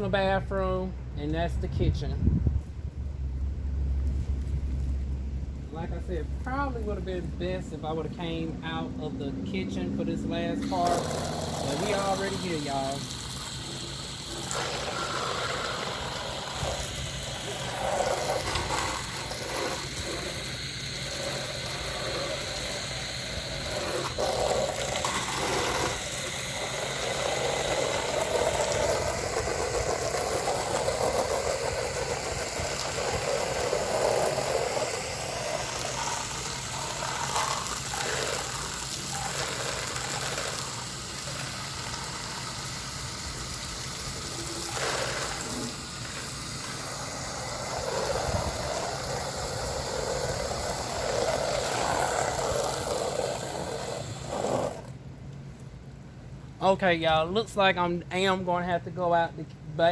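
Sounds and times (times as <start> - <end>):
pressure washer spraying siding: 5.8 - 55.1.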